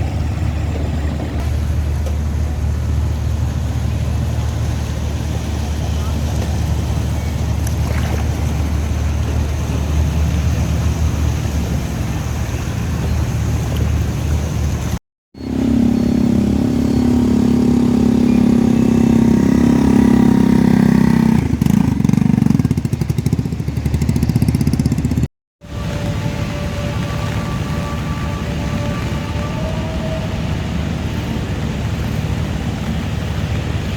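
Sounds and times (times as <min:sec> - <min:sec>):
close engine putt-putt pulse: 0:00.0 - 0:33.9
street traffic engines: 0:00.0 - 0:33.9.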